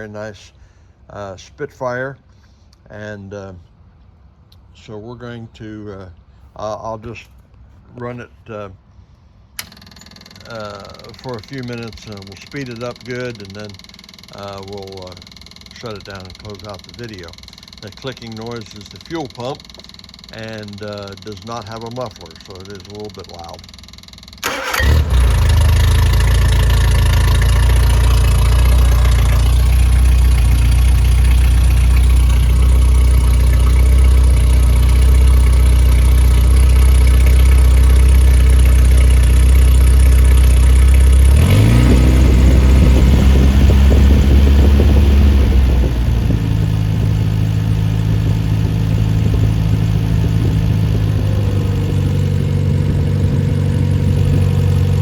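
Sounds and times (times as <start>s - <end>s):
car engine running without muffler: 10.4s - 55.0s.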